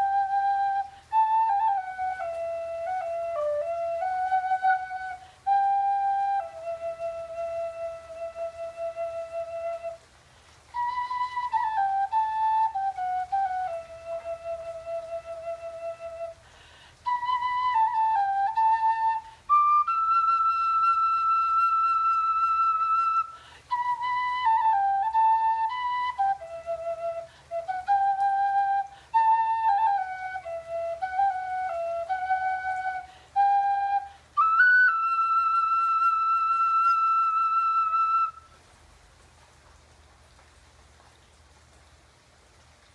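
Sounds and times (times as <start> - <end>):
solo flute melody: 0.0 - 38.8.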